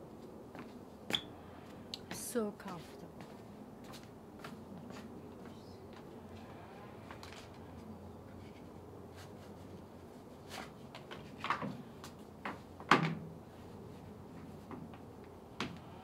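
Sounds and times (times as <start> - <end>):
footsteps on wooden decking: 0.2 - 0.8, 1.6 - 15.9.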